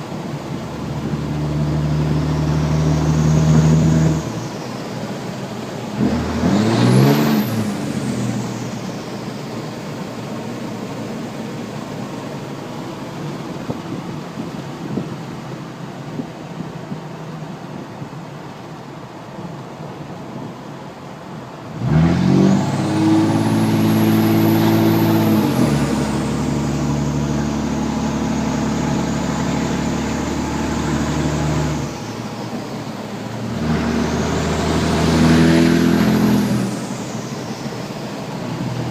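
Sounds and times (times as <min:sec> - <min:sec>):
diesel engine pulling: 0:00.0 - 0:38.9.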